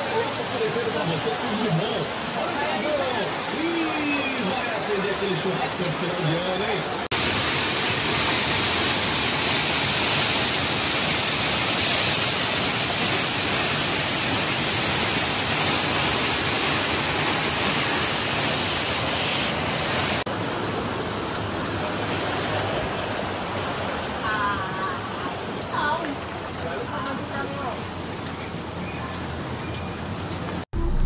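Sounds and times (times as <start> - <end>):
floodwater rushing: 0.0 - 28.7
floodwater flowing along street: 0.0 - 31.0.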